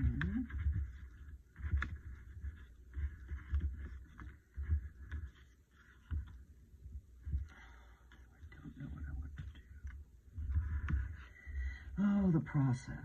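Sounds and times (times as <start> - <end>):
glue stick rubbing on paper: 0.0 - 11.5.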